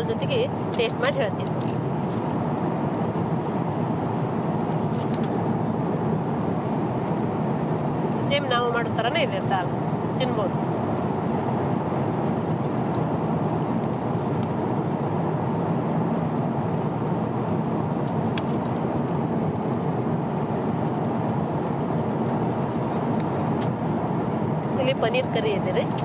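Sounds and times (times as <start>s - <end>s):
engine and airflow rush: 0.0s - 26.0s.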